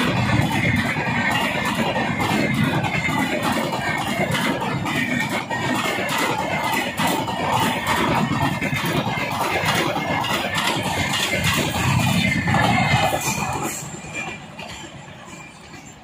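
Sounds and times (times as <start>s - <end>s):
rapid train clatter: 0.0s - 16.0s
train wheels rumbling on rails: 0.0s - 16.0s.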